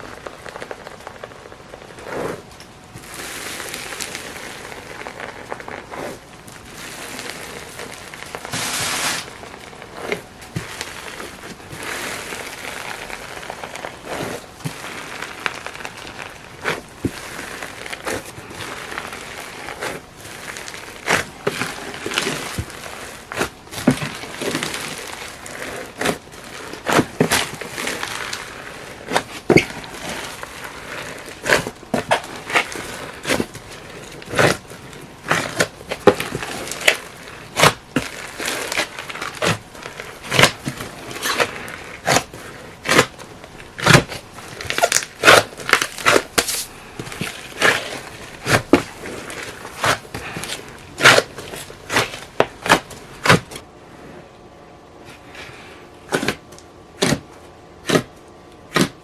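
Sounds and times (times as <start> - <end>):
slime squishing: 0.0 - 53.7, 55.0 - 59.0.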